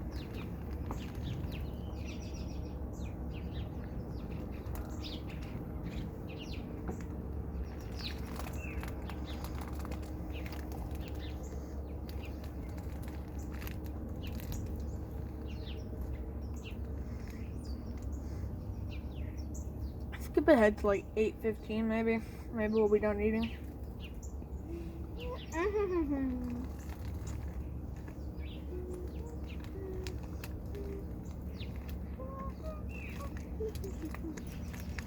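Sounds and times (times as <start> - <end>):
birds chirping: 0.0 - 35.0
steady low hum: 0.0 - 35.0.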